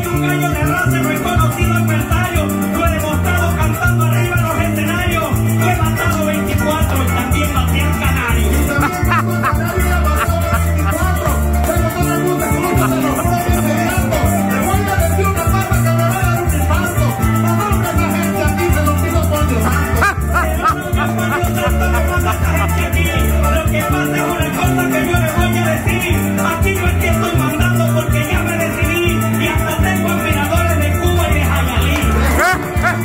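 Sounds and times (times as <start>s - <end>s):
electric bass: 0.0s - 33.0s
maracas: 0.0s - 33.0s.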